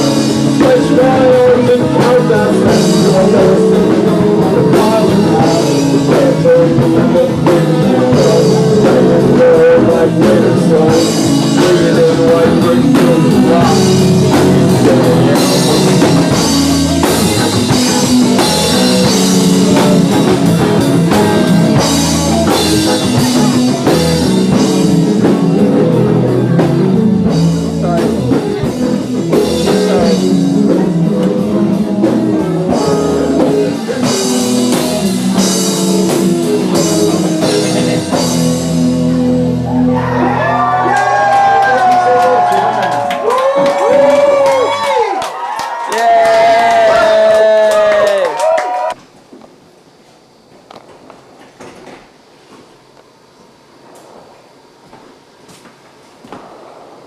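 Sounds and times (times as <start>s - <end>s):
live rock band: 0.0s - 49.0s.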